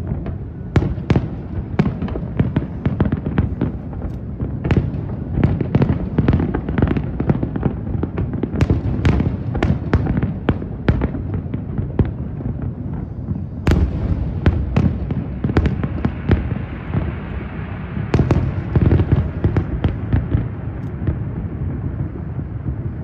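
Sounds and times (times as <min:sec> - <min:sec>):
firework bangs and crackles: 0:00.0 - 0:23.0.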